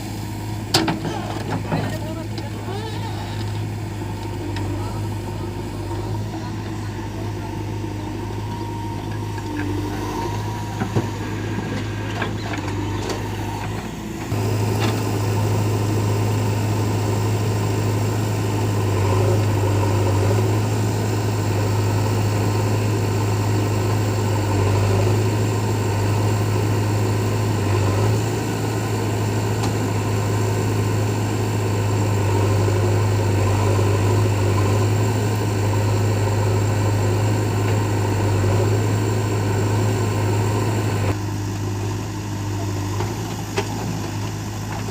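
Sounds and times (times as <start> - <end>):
diesel engine of heavy machinery: 0.0 - 44.9.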